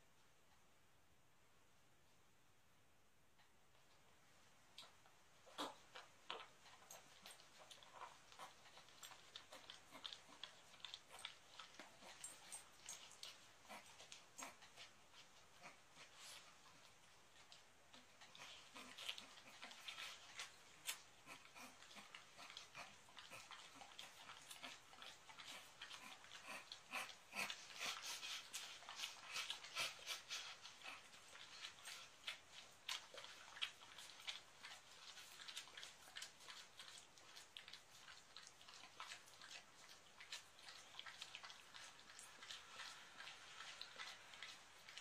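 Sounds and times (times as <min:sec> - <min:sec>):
dog sniffing and snuffling: 0:04.8 - 0:45.0.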